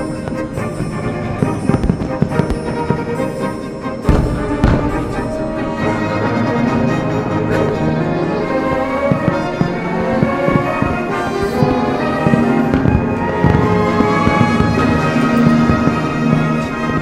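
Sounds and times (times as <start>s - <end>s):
fireworks banging: 0.0s - 17.0s
orchestral music with brass: 0.0s - 17.0s.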